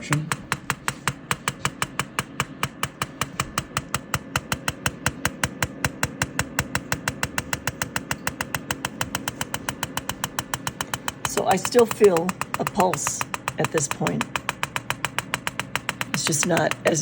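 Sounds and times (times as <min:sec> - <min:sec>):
low steady hum: 0:00.0 - 0:17.0
machine clicking evenly: 0:00.0 - 0:17.0.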